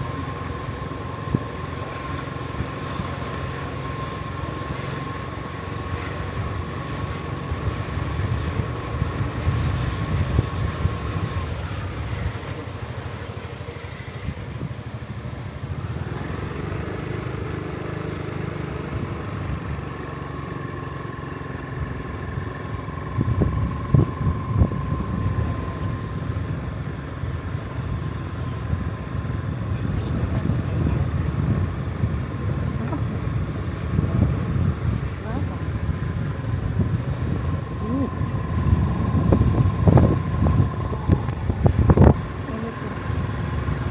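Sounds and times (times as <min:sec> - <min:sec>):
thin steady whine: 0:00.0 - 0:15.8, 0:21.0 - 0:43.9
vehicle low rumble: 0:00.0 - 0:43.9.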